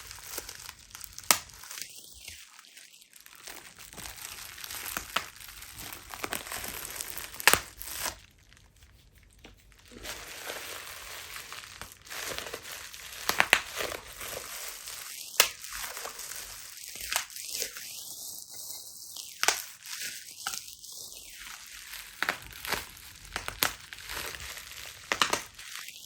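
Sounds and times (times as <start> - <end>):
bubble wrap crinkling: 0.0 - 26.0
bubble wrap popping: 0.0 - 26.0.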